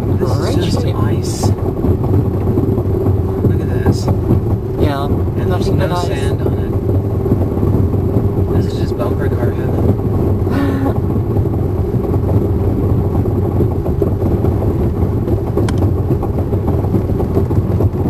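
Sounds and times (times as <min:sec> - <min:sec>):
car driving on icy road: 0:00.0 - 0:18.0.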